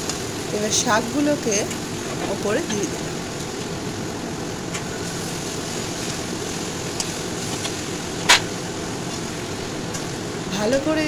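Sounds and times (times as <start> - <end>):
vegetables cooking in a pan: 0.0 - 11.0.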